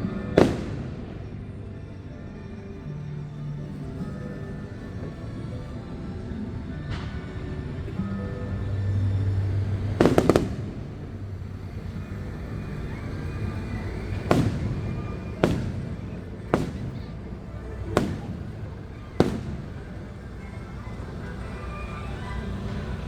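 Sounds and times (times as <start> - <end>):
fireworks bursting: 0.0 - 2.2, 3.3 - 23.0.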